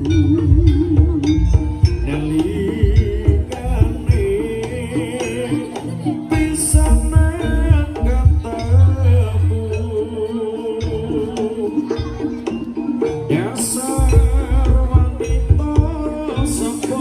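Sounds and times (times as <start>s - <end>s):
singing: 0.0s - 12.6s, 13.2s - 17.0s
heavy drum strokes: 0.0s - 17.0s
wavering melodic line: 0.0s - 17.0s.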